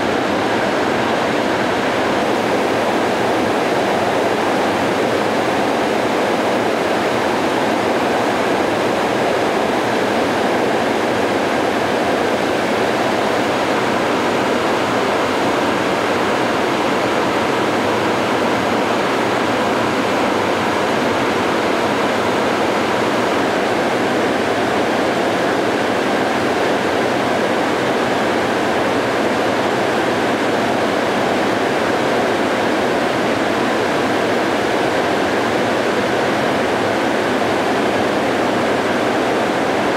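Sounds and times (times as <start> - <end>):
floodwater rushing over a dam: 0.0 - 39.9.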